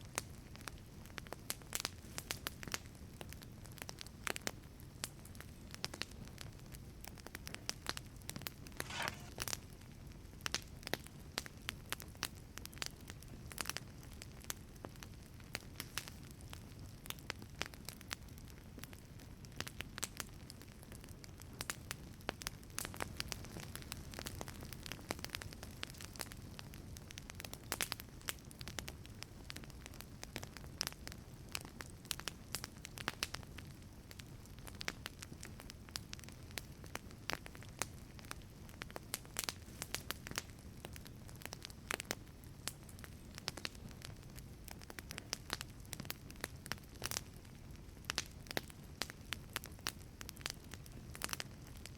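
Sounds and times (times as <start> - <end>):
low rumble of flames: 0.0 - 51.9
wood fire crackling and popping: 0.0 - 51.9.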